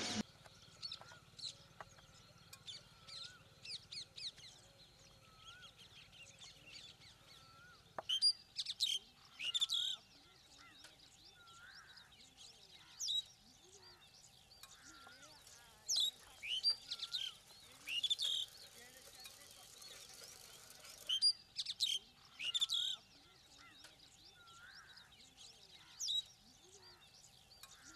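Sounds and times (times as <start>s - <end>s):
birds chirping and whistling: 0.0s - 27.9s.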